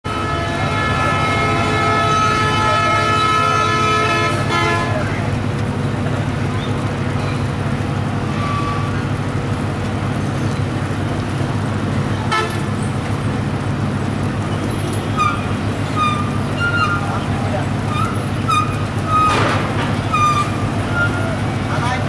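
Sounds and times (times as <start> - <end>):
heavy vehicle engines droning: 0.1 - 22.0.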